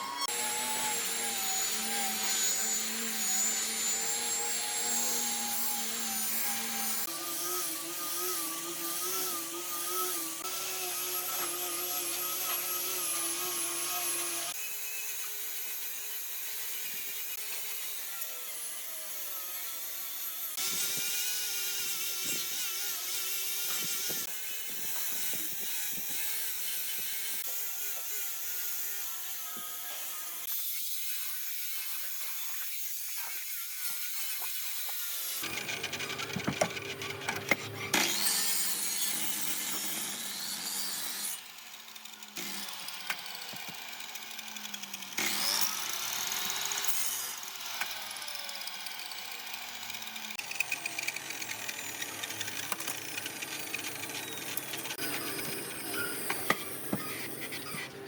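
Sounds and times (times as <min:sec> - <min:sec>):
power tool motor whine: 0:00.0 - 0:30.5, 0:31.9 - 0:58.0
wood cutting and sanding: 0:00.0 - 0:58.0.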